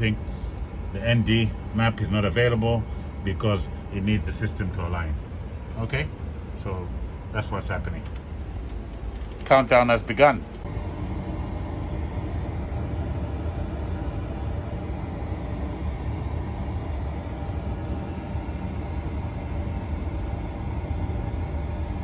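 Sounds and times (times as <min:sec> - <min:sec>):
faint even hum: 0:00.0 - 0:22.0
steady low rumble: 0:00.0 - 0:22.0.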